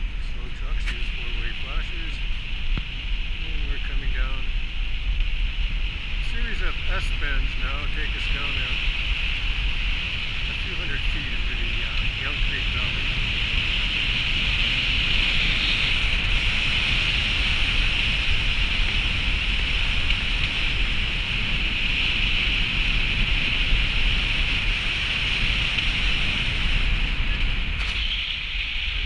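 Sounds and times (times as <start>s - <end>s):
tyres rumbling on snowy road: 0.0s - 29.0s
wind rushing over microphone: 0.0s - 29.0s.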